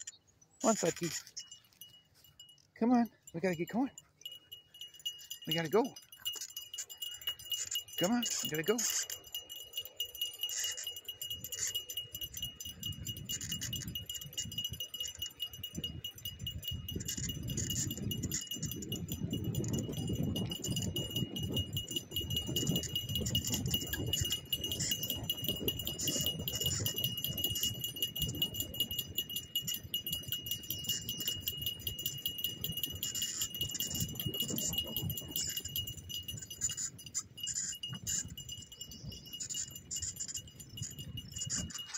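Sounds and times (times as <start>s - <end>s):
dog tags jingling: 0.0s - 41.9s
thin steady high tone: 0.0s - 41.9s.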